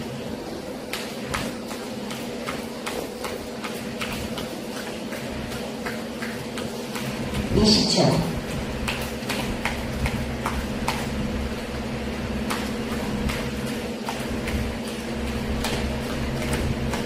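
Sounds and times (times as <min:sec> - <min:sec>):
jump rope slapping floor: 0:00.0 - 0:17.0
steady low hum: 0:00.0 - 0:17.0.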